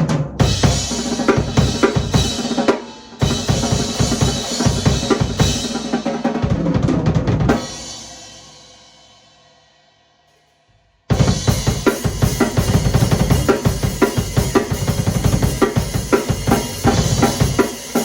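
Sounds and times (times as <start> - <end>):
drum kit groove: 0.0 - 8.8, 11.1 - 18.0.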